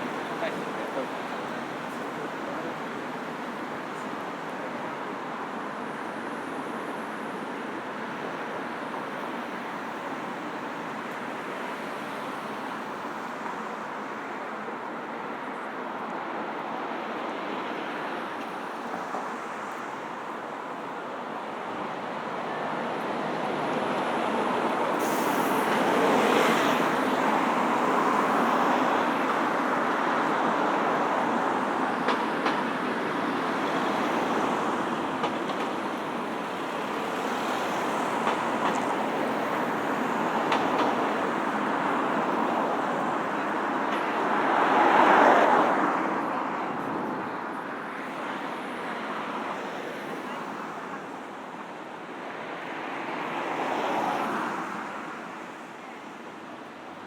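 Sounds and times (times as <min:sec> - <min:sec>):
city road traffic: 0:00.0 - 0:57.0.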